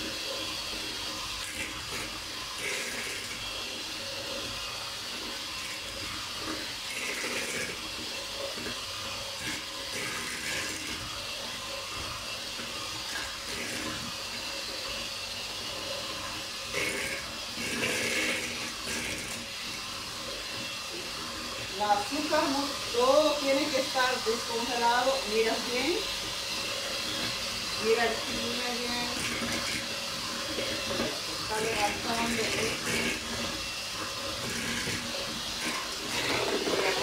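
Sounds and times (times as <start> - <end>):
electric hand mixer whisking: 0.0 - 37.0.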